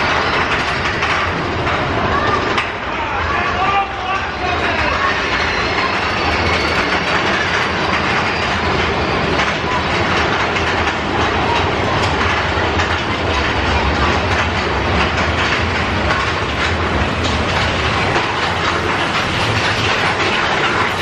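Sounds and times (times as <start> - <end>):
roller coaster cars rumbling: 0.0 - 21.0.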